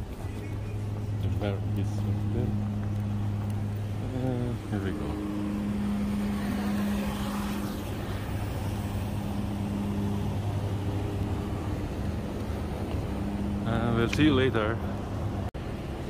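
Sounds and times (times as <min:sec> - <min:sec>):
low mechanical hum: 0:00.0 - 0:16.0
traffic noise: 0:00.0 - 0:16.0.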